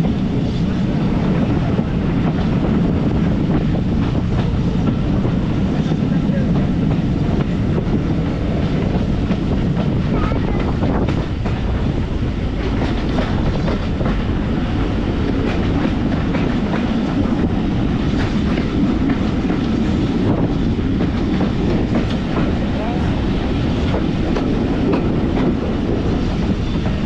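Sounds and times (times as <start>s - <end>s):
light knocks and clicks of train: 0.0s - 27.0s
train rumbling on track: 0.0s - 27.0s.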